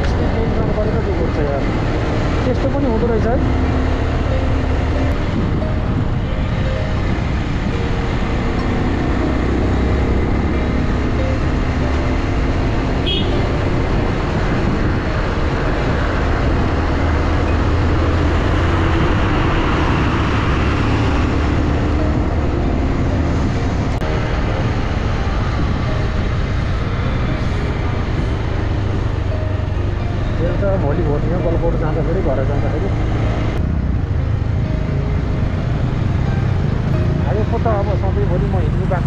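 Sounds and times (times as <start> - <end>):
motorcycle engine hum: 0.0 - 39.0
wind and road noise: 0.0 - 39.0.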